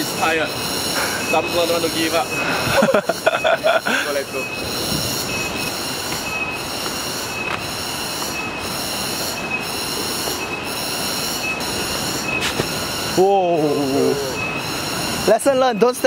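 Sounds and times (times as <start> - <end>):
cicadas buzzing: 0.0 - 16.0
steady hiss: 0.0 - 16.0.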